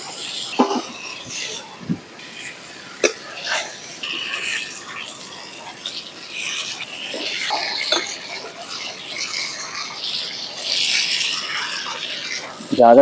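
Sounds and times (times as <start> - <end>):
spatula scraping: 0.0 - 12.9
food sizzling: 0.0 - 13.0.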